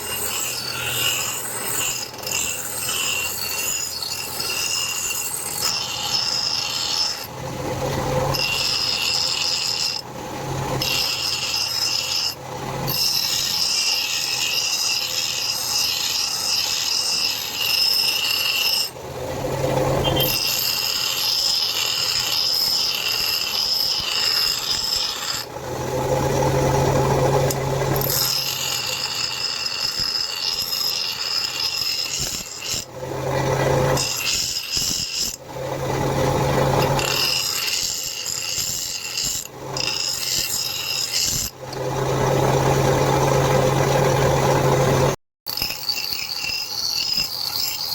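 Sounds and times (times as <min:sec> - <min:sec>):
electric grinder grinding metal: 0:00.0 - 0:47.9.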